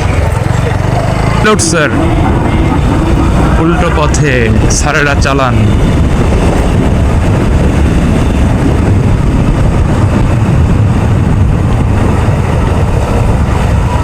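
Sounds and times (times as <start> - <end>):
motorcycle engine and road noise: 0.0 - 14.0
wind on microphone: 0.0 - 14.0.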